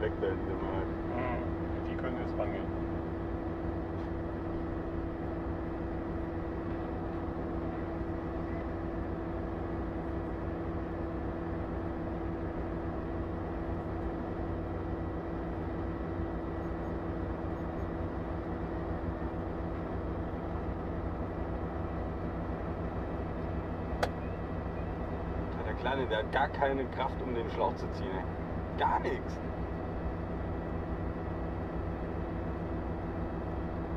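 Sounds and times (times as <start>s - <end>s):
engine running low rumble: 0.0s - 33.9s.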